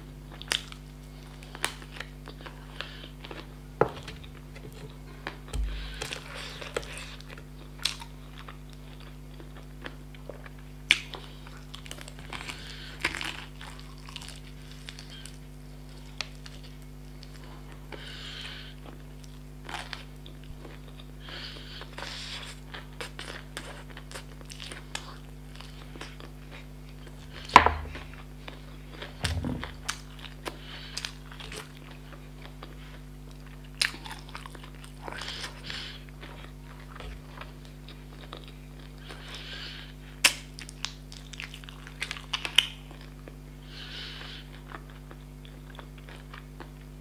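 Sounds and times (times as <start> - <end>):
crunching fried chicken: 5.3 - 47.0.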